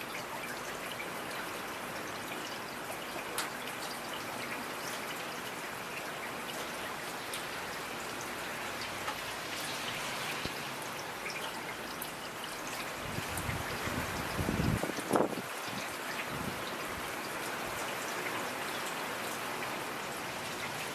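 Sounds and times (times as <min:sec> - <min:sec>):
raindrops pattering on a surface: 0:00.0 - 0:20.9.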